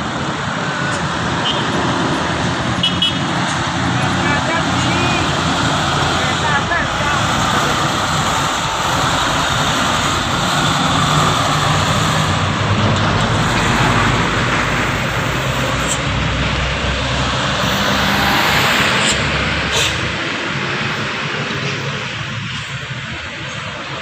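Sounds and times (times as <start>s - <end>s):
road noise: 0.0s - 24.0s
truck diesel engine running: 0.0s - 24.0s.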